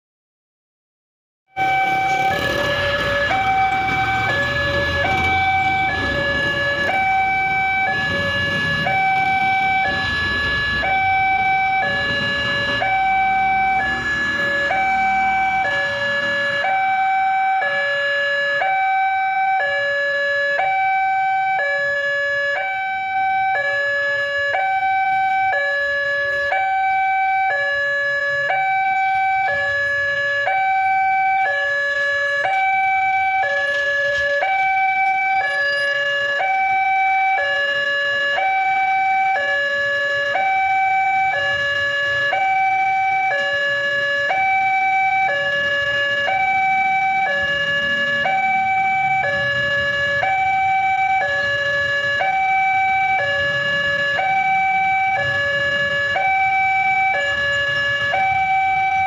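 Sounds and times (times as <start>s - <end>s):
level crossing two-tone alarm: 1.5s - 59.0s.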